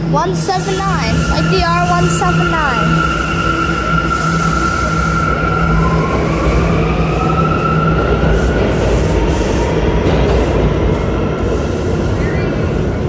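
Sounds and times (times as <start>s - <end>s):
train motors whining: 0.0s - 13.0s
wheels rumbling on rails: 0.0s - 13.0s.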